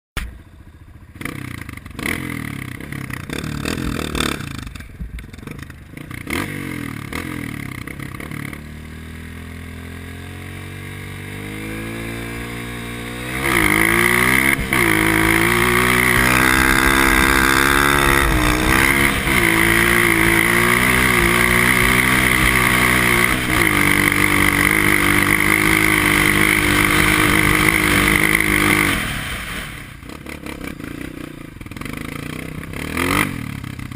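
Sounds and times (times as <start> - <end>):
dirt bike engine revving: 1.2 - 33.9.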